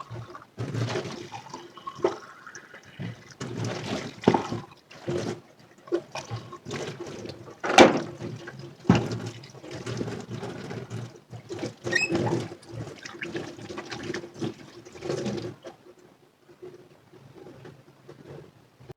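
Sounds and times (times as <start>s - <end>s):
water running in a sink: 0.0s - 15.8s.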